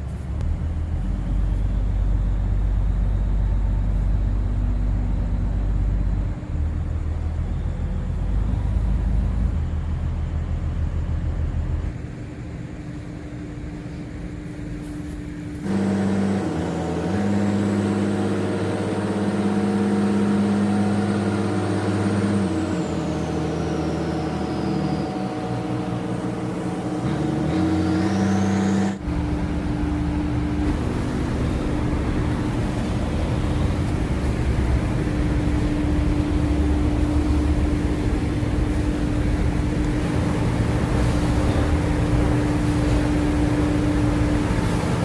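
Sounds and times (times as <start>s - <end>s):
boat engine humming: 0.0s - 45.0s
rough engine rumble: 0.0s - 45.0s.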